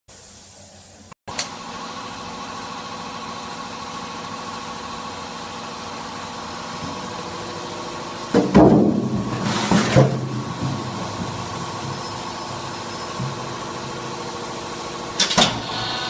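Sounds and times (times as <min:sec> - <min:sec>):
hydraulic motor and pump humming: 0:01.3 - 0:16.0.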